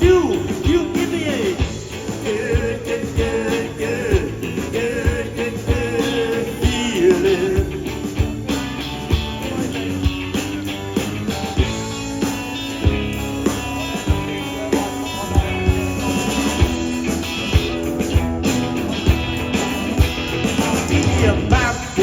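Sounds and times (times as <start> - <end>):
electric guitar playing: 0.0 - 22.0
steady drum beat: 0.0 - 22.0.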